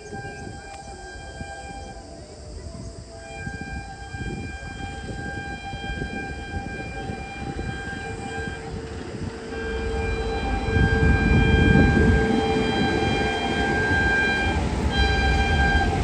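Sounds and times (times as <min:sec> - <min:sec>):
locomotive multi-tone horn: 0:00.0 - 0:16.0
train rumble: 0:00.0 - 0:16.0.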